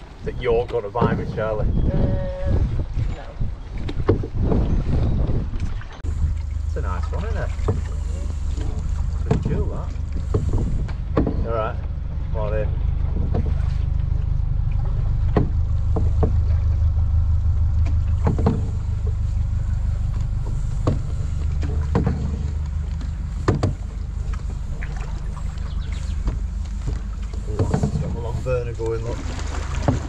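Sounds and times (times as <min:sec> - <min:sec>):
paddles knocking against canoe: 0:00.0 - 0:01.8, 0:03.0 - 0:30.0
steady low rumble: 0:00.0 - 0:30.0.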